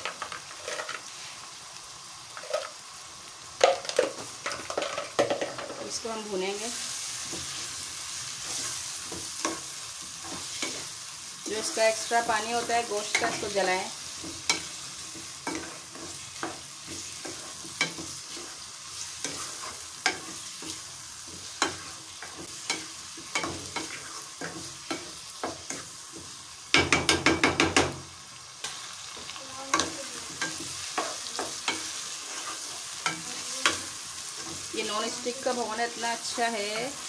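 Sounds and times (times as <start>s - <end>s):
meat and onions sizzling: 0.0s - 37.0s.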